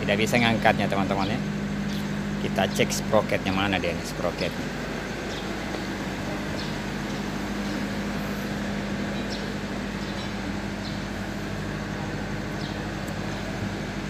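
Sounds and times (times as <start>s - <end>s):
machine droning: 0.0s - 14.0s.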